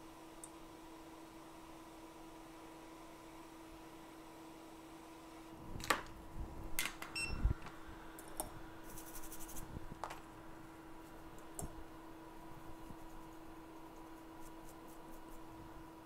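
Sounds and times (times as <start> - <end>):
bench equipment hum: 0.0 - 16.0.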